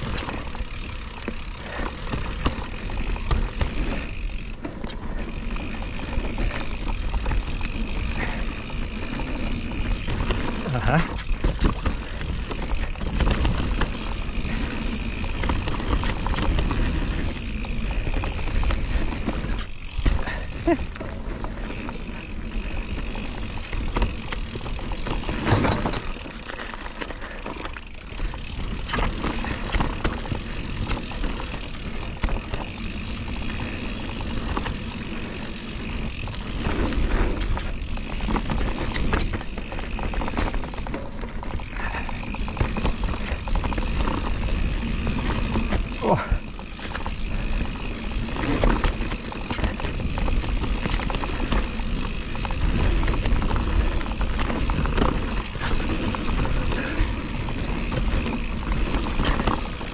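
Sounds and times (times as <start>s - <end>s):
bike rattling and knocking: 0.0s - 59.9s
bike tyres rolling on dirt: 0.0s - 59.9s.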